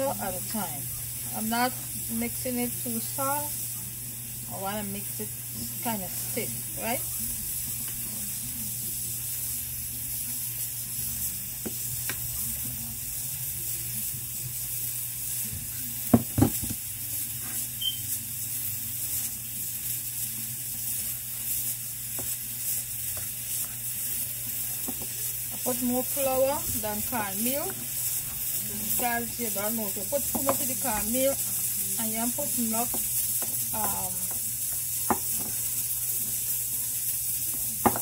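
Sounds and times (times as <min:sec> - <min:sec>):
steady hiss: 0:00.0 - 0:38.0.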